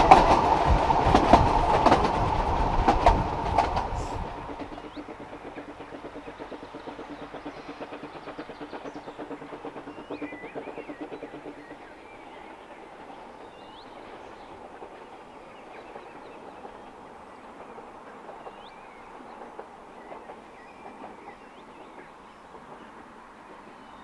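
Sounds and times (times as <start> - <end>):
distant steam train chuffing: 0.0 - 24.0
steady train running noise: 0.0 - 24.0.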